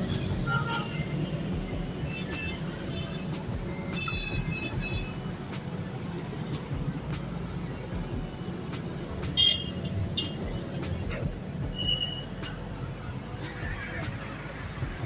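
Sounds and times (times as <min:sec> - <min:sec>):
background music with steady beat: 0:00.0 - 0:15.0
engines running: 0:00.0 - 0:15.0.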